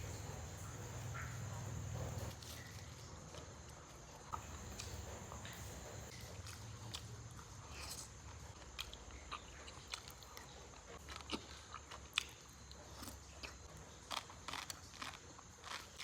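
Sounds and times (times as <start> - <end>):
person chewing meat: 0.1 - 16.0.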